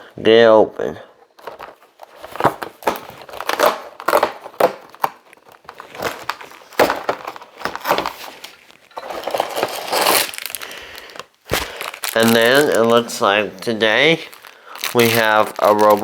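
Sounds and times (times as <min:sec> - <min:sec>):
cardboard and plastic crinkling: 0:01.3 - 0:16.0.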